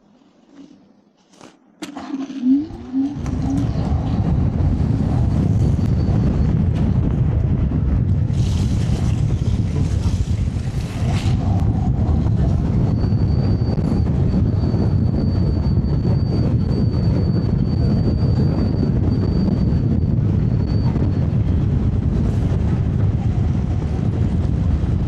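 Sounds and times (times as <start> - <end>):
road rumble: 0.8 - 25.0
wind buffeting microphone: 2.5 - 25.0.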